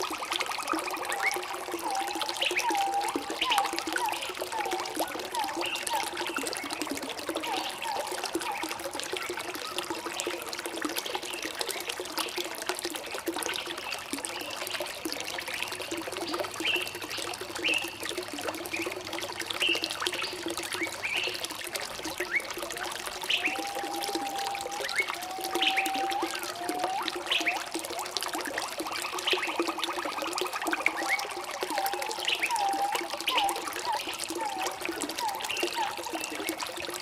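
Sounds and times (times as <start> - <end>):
running water trickling: 0.0 - 37.0.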